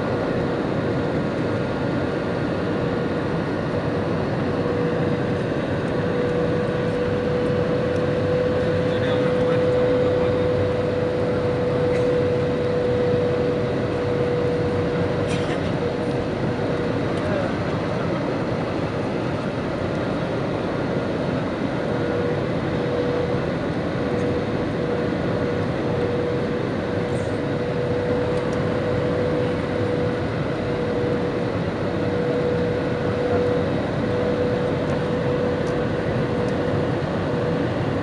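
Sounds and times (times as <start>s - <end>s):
constant whine: 0.0s - 38.0s
jet engine and airflow rush: 0.0s - 38.0s.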